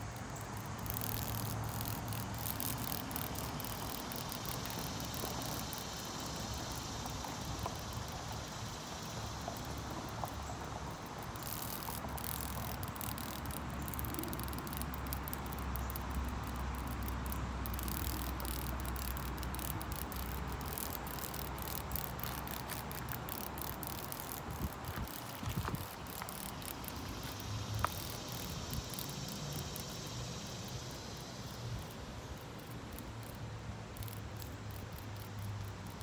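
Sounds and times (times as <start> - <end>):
insects chirping: 0.0 - 36.0
steady hiss: 0.0 - 36.0.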